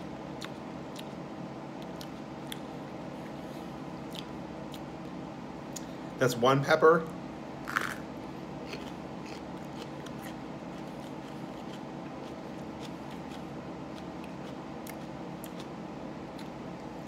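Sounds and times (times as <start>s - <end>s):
chewing crisp pepper: 0.0s - 5.9s, 7.7s - 17.0s
steady background hum: 0.0s - 17.0s.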